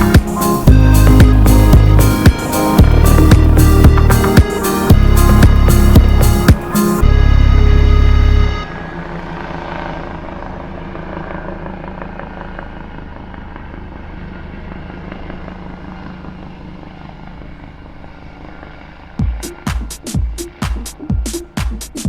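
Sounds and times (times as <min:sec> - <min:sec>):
helicopter engine and rotors: 0:00.0 - 0:22.0.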